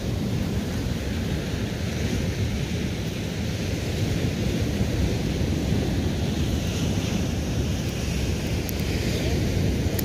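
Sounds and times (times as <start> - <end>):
sea surf: 0.0 - 10.0
wind noise on microphone: 0.0 - 10.0.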